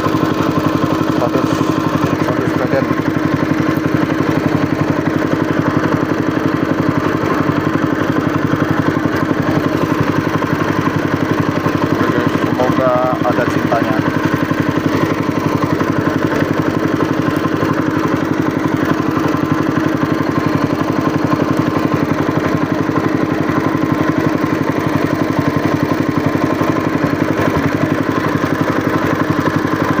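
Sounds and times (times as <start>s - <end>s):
small boat engine running: 0.0s - 30.0s.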